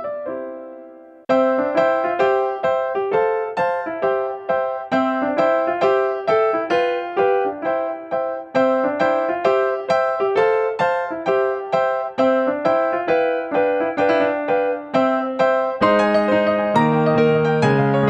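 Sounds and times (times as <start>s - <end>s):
piano single notes: 0.0s - 18.0s.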